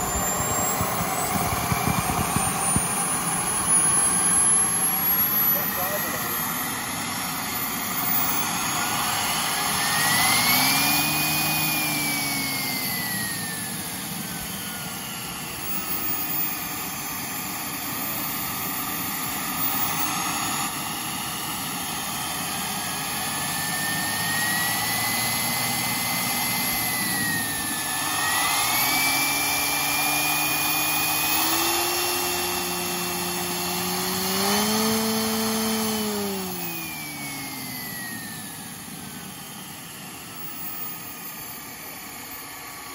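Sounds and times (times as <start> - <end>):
model turboprop engine whining: 0.0 - 42.9.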